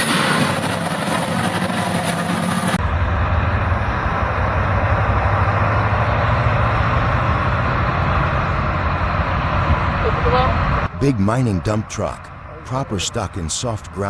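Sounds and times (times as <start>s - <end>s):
heavy diesel truck engine: 0.0s - 14.0s.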